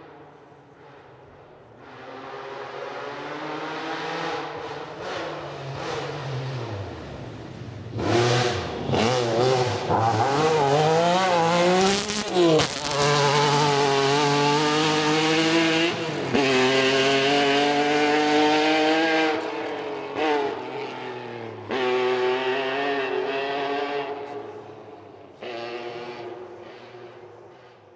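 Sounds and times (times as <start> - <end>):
rally car engine revving: 1.6 - 27.9.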